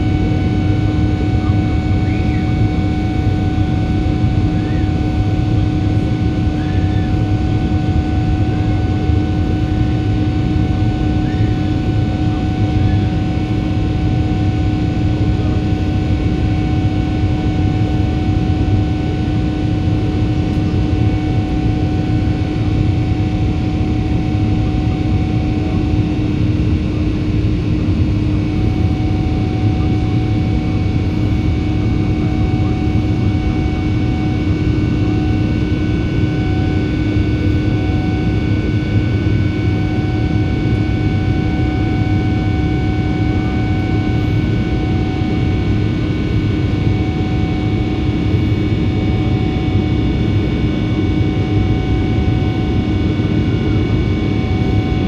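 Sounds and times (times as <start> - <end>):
constant hum: 0.0 - 55.0
jet engine and airflow rush: 0.0 - 55.0.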